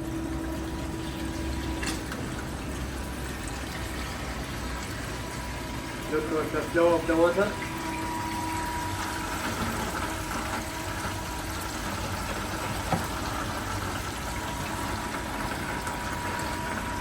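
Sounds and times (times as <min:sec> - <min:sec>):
water flowing through sluice box: 0:00.0 - 0:17.0
water pump running: 0:00.0 - 0:17.0.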